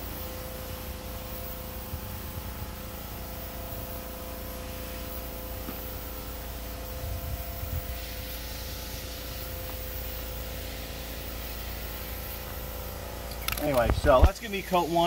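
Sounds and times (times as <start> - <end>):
aerosol spray hissing: 0.0 - 13.1.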